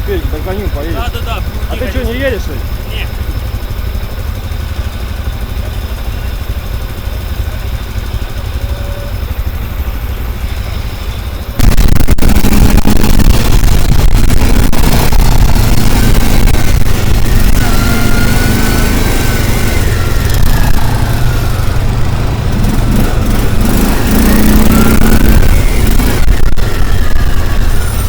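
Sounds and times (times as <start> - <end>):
vehicle engine idling: 0.0 - 28.0
vehicle engine pulling away: 0.0 - 28.0.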